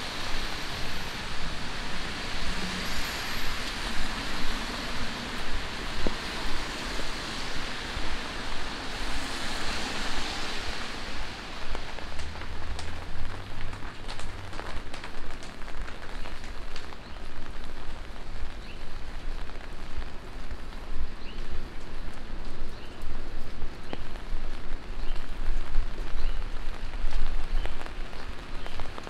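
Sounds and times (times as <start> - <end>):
car tyres on wet road: 0.0 - 29.0
steady rain on street: 0.0 - 29.0.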